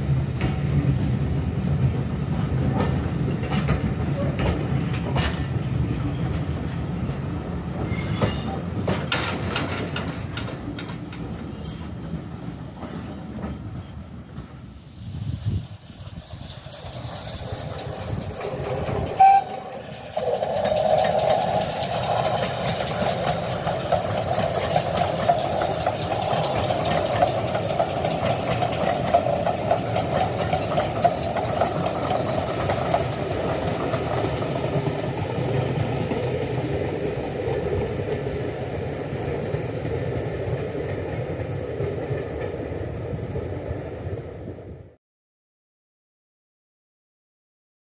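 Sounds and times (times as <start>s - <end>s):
steam train passing: 0.0s - 45.0s.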